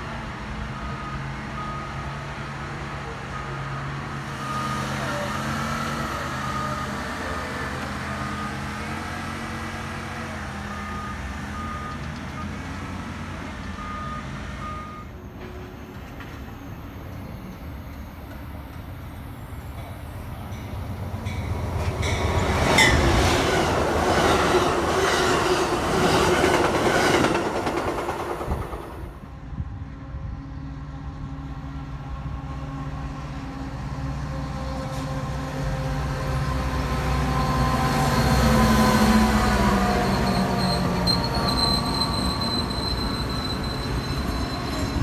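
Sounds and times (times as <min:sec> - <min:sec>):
diesel locomotive engine hum: 0:00.0 - 0:45.0
train passing: 0:00.0 - 0:45.0.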